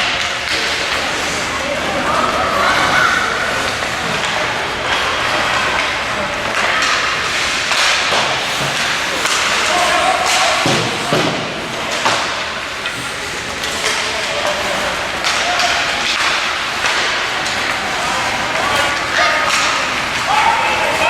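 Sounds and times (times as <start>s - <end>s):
arena din of play: 0.0s - 21.0s
scattered voices: 0.0s - 21.0s
puck and sticks knocking boards: 3.6s - 21.0s.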